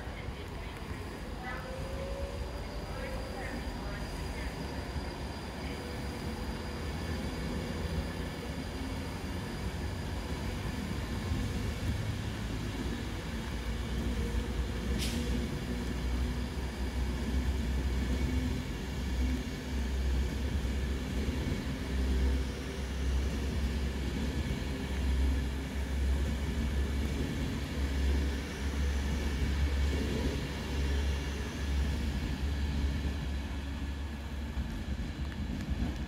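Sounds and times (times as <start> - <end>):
train low rumble: 0.0 - 36.0.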